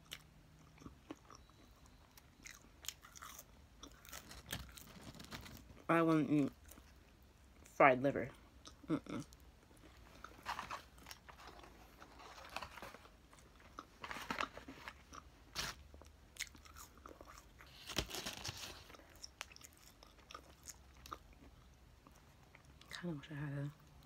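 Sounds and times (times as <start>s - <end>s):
person crunching and chewing food: 0.0s - 23.0s.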